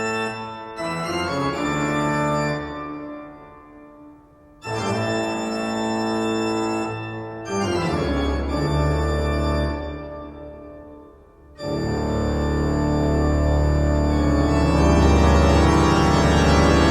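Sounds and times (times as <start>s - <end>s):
sustained organ chords: 0.0s - 16.9s.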